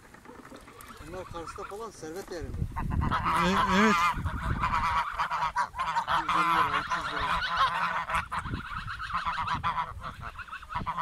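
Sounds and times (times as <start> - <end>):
geese honking and cackling: 0.0 - 11.0.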